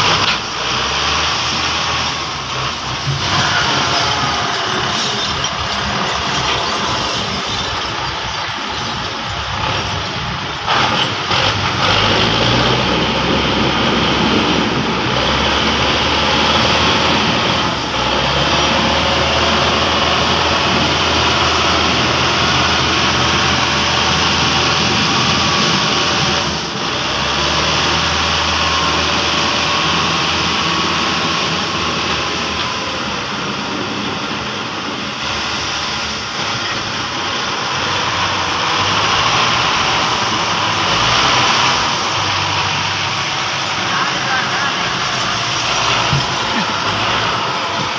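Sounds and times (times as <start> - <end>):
tractor diesel engine droning: 0.0 - 47.9.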